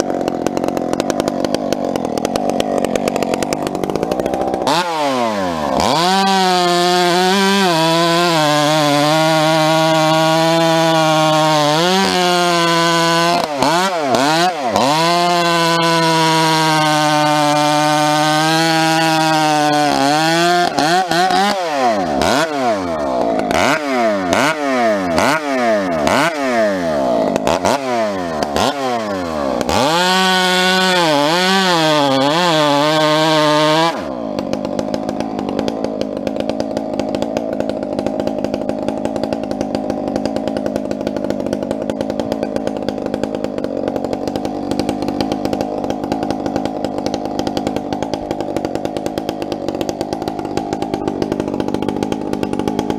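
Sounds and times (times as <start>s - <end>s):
chainsaw running at high revs: 0.0s - 52.9s.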